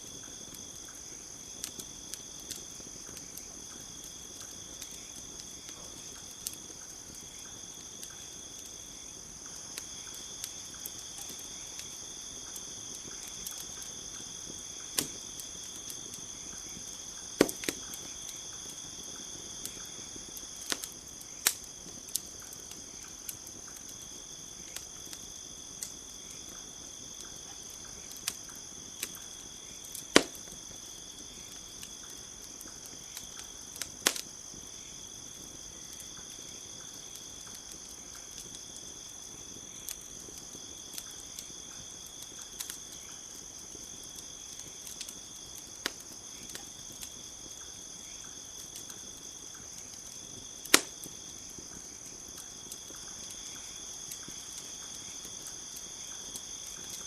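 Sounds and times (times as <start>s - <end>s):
campfire crackling and popping: 0.0s - 57.0s
crickets chirring: 0.0s - 57.0s.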